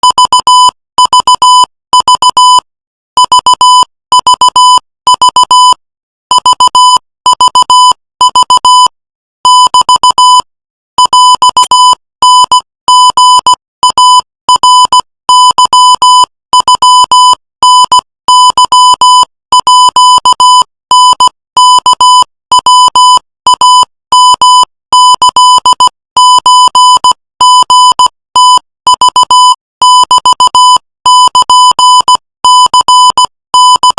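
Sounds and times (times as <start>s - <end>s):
morse code beeps: 0.0s - 2.6s, 3.2s - 33.9s.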